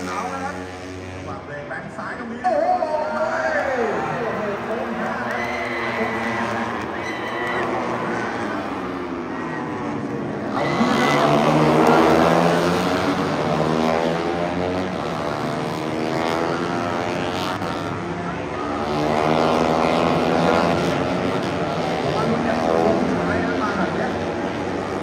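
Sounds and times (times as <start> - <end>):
race motorcycles passing at high revs: 0.0 - 25.0.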